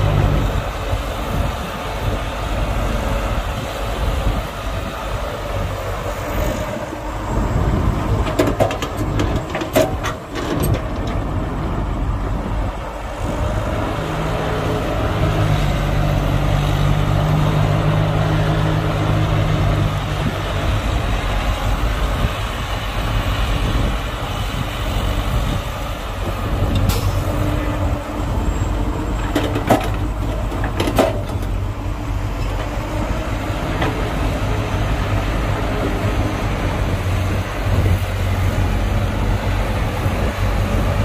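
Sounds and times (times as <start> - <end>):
heavy diesel engines running: 0.0 - 41.0.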